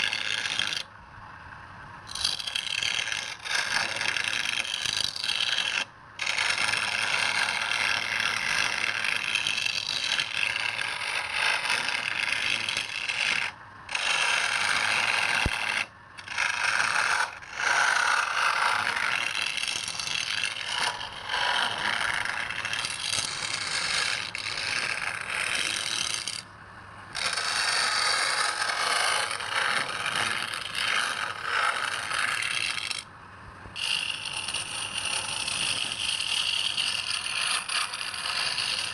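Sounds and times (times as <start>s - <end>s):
lathe tool scraping wood: 0.0s - 0.9s, 2.1s - 26.5s, 27.1s - 33.1s, 33.8s - 38.9s.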